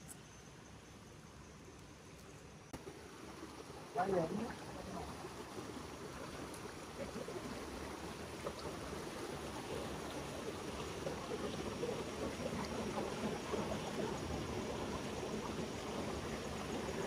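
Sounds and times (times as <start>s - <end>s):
stream of water flowing: 0.0s - 17.0s.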